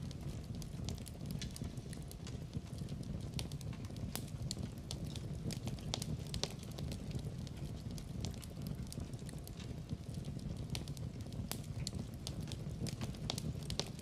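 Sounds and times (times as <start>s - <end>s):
fireplace fire crackling and popping: 0.0s - 14.0s
low rumble of flames: 0.0s - 14.0s.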